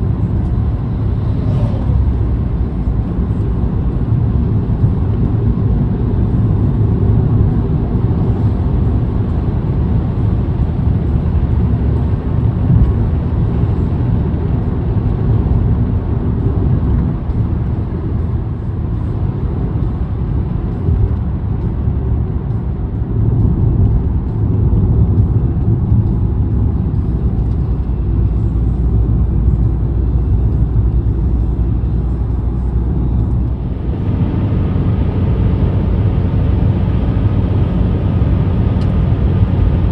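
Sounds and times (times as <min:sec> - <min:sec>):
vehicle engine and tyre rumble: 0:00.0 - 0:39.9.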